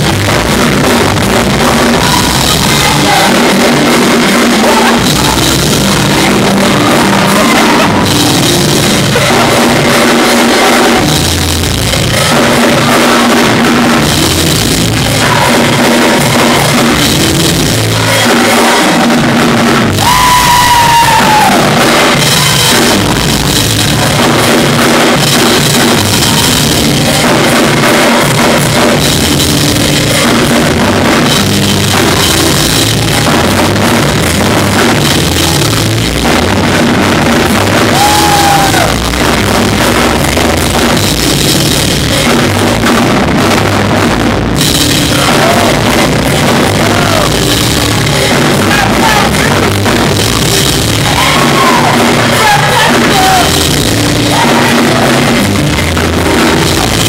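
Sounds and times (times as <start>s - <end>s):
drum kit: 0.0s - 57.0s
gospel band playing: 0.0s - 57.0s
pitch-bent notes: 0.0s - 57.0s.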